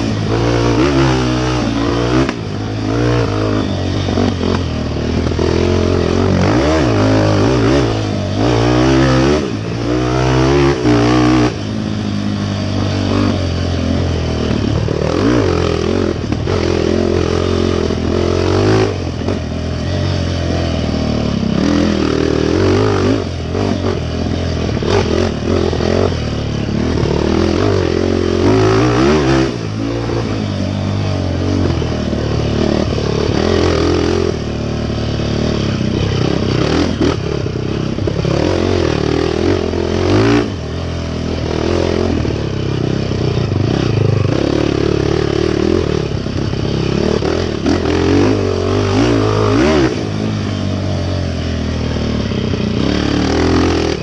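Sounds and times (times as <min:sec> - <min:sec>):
racing engine revving: 0:00.0 - 0:50.6.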